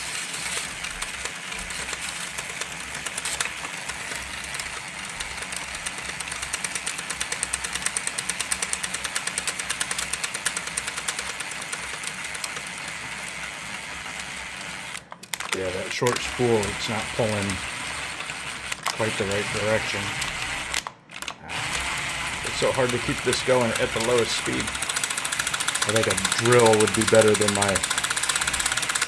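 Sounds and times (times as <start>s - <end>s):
impact driver motor whirring: 0.0s - 29.0s
fast even clicking: 0.4s - 13.4s, 14.2s - 29.0s.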